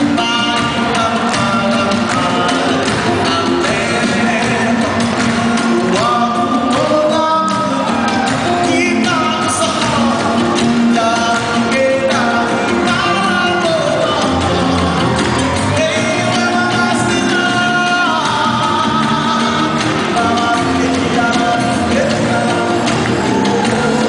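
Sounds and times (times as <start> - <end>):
amplified pop backing music: 0.0 - 24.0
man singing into microphone: 0.0 - 24.0.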